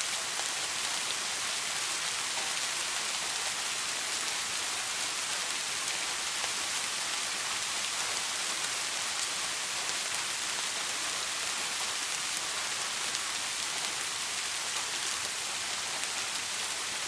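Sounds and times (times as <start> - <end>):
steady rain hissing: 0.0 - 17.0
rain drops ticking: 0.1 - 17.0.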